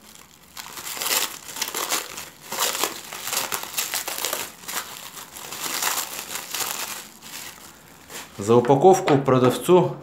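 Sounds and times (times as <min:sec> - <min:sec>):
plastic film rustling and crinkling: 0:00.0 - 0:08.6.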